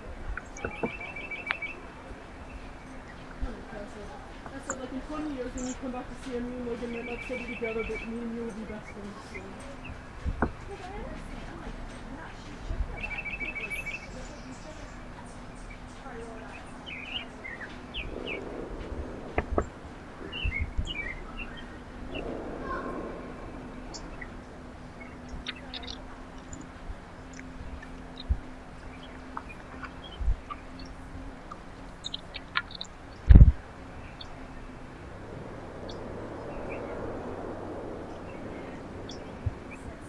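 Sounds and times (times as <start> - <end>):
birds chirping: 0.0 - 40.0
faint steady hum: 0.0 - 40.0
vehicle passing on road: 0.0 - 40.0.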